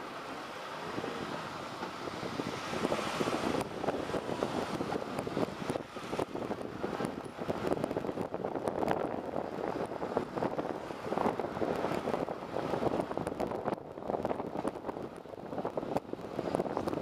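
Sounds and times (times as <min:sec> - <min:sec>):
bus road and engine noise: 0:00.0 - 0:17.0.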